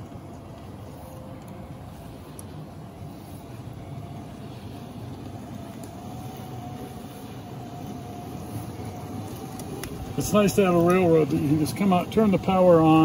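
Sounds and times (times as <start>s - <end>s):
model train rumbling on rails: 0.0s - 13.0s
thin motor whine: 0.0s - 13.0s.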